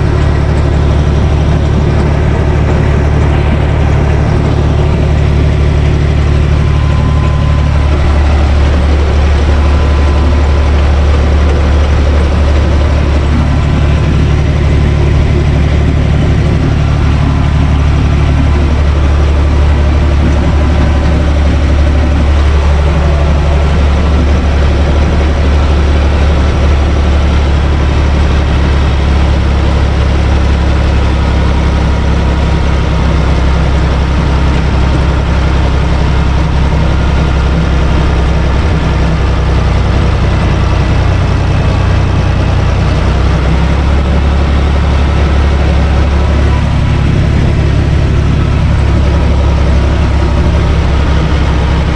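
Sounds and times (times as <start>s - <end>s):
rotary tiller working soil: 0.0s - 51.9s
tractor diesel engine running: 0.0s - 51.9s.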